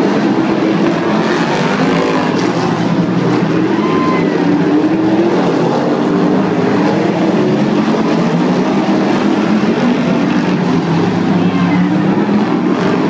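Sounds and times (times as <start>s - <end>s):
car engine accelerating: 0.0s - 13.0s
race car engines droning: 0.0s - 13.0s.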